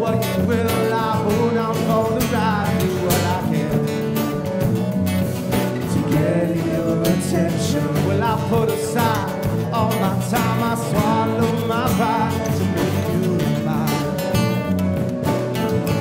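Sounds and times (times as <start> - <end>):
acoustic guitars strumming: 0.0 - 16.0
bending melody line: 0.0 - 16.0
electric bass: 0.0 - 16.0.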